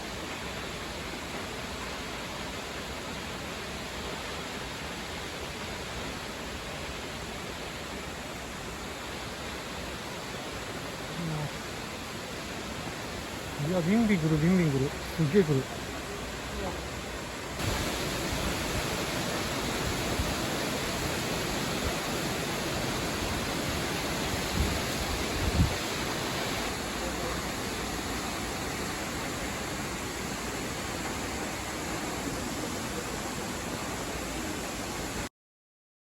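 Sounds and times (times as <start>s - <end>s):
waterfall rushing: 0.0s - 35.3s.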